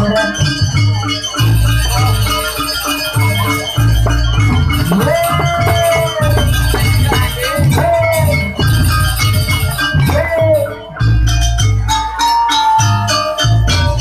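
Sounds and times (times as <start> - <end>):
drum and gong beats: 0.0 - 14.0
wavering melody line: 0.0 - 14.0.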